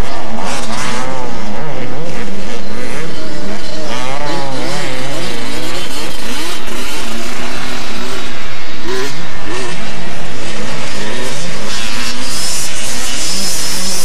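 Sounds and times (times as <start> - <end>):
two-stroke motocross bikes revving: 0.0 - 14.0.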